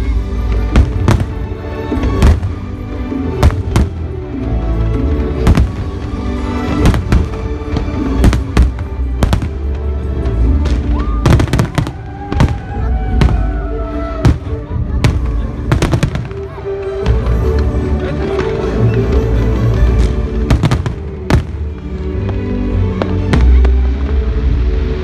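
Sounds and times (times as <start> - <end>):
music: 0.0 - 25.0
fireworks banging: 0.5 - 18.8, 19.8 - 24.2.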